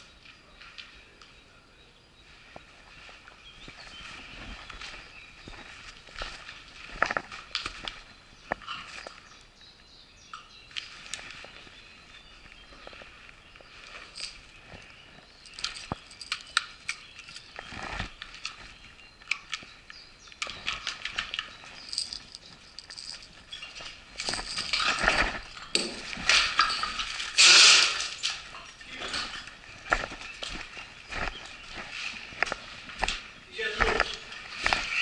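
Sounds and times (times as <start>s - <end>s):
footsteps crunching over rubble: 2.4s - 9.6s, 10.6s - 35.0s.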